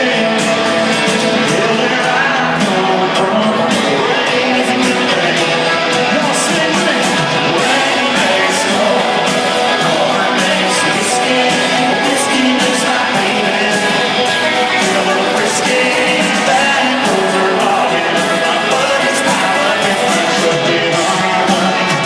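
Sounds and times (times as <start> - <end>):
live country-rock band: 0.0 - 22.0.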